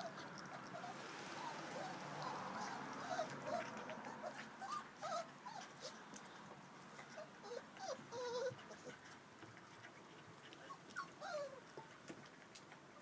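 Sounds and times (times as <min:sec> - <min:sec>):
puppies whimpering and squeaking: 0:00.0 - 0:06.2, 0:06.9 - 0:09.2, 0:09.8 - 0:11.9.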